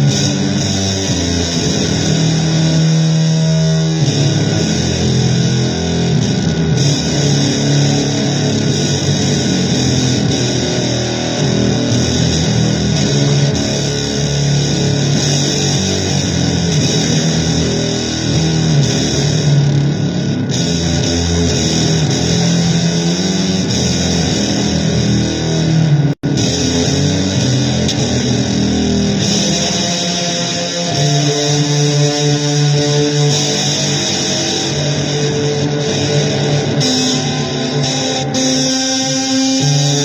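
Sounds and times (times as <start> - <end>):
loud electric guitar blues music: 0.0 - 40.0.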